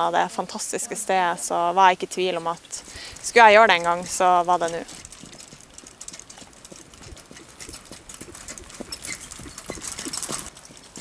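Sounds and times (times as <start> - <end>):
hooves clip-clopping on gravel: 0.0 - 11.0.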